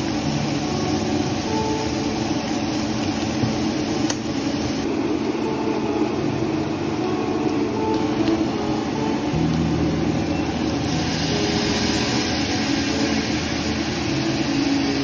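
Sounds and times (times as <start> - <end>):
range hood exhaust fan running: 0.0 - 15.0.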